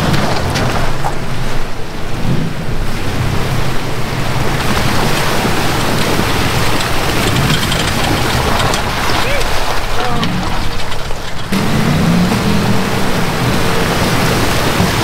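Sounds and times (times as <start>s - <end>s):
wind buffeting microphone: 0.0s - 15.0s
vehicle engine running: 2.6s - 15.0s.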